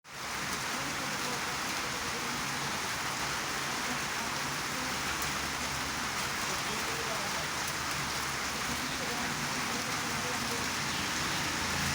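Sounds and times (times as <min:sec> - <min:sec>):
rain falling steadily: 0:00.0 - 0:11.9.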